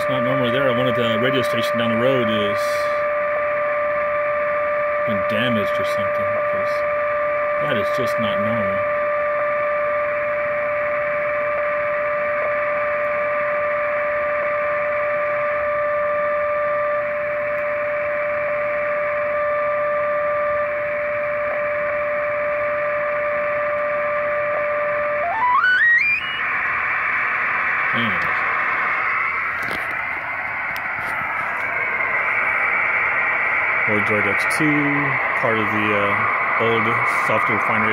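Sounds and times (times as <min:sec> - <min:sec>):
radio band hiss: 0:00.0 - 0:03.7, 0:04.9 - 0:09.2, 0:10.2 - 0:37.9
radio whistle tone: 0:00.0 - 0:37.9.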